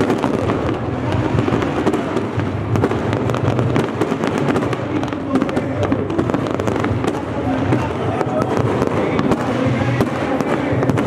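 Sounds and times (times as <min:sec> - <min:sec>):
fireworks crackle: 0:00.0 - 0:11.0
fireworks popping and banging: 0:00.0 - 0:11.0.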